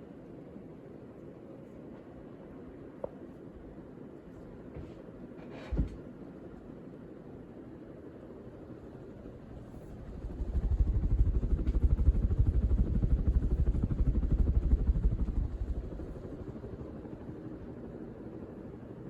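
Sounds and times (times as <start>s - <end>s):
ceiling fan air buffeting microphone: 0.0s - 19.0s.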